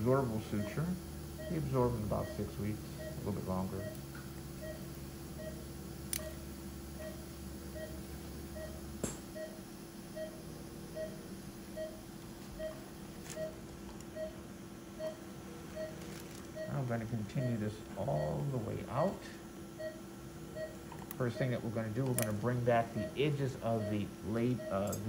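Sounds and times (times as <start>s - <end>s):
patient monitor beeping: 0.0s - 8.8s, 9.4s - 14.4s, 15.0s - 19.2s, 19.8s - 25.0s
steady hum: 0.0s - 25.0s.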